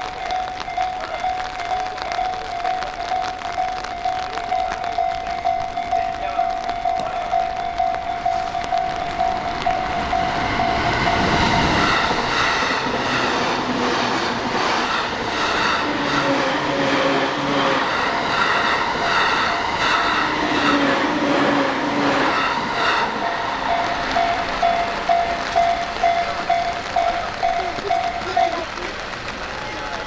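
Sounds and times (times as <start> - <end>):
level crossing alarm bell: 0.0 - 28.8
electric train passing: 0.0 - 30.0.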